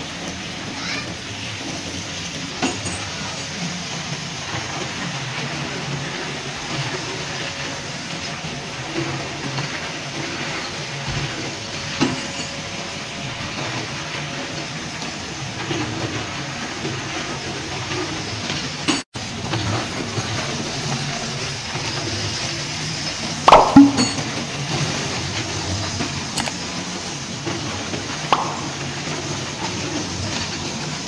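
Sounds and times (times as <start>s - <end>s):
workshop machinery running: 0.0s - 31.0s.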